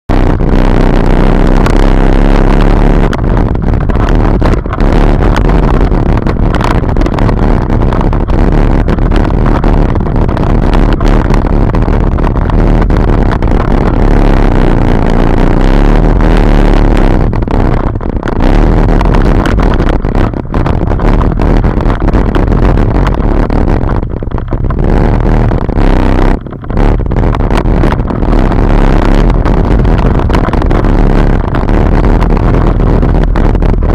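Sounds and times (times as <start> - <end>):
off-road vehicle engine running hard: 0.0 - 33.9.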